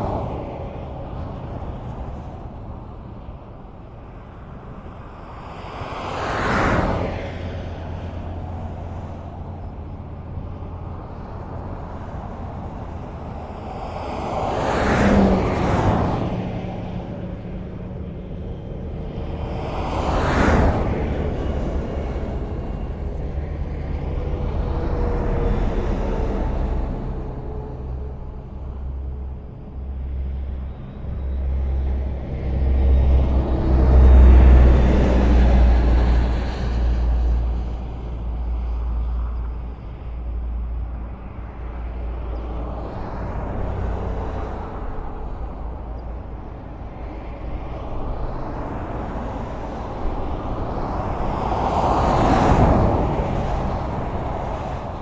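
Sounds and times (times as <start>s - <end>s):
highway traffic rumble: 0.0s - 55.0s.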